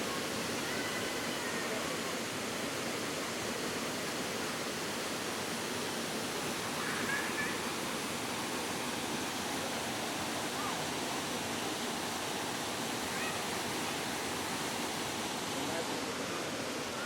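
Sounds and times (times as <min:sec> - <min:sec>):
mountain stream rapids rushing: 0:00.0 - 0:17.0.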